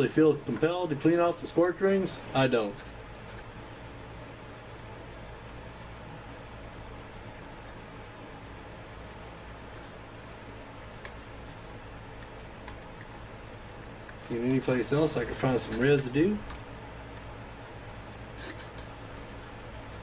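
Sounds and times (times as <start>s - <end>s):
brush scrubbing metal: 1.1s - 10.0s, 10.7s - 16.5s, 18.0s - 20.0s.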